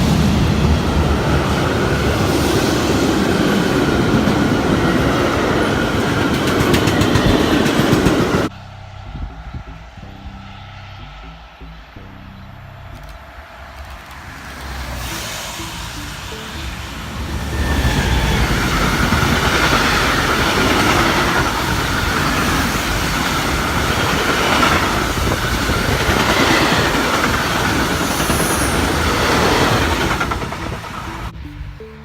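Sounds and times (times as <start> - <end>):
train wheels rushing on rail: 0.0 - 8.5, 13.0 - 31.4
high whine: 0.0 - 32.0.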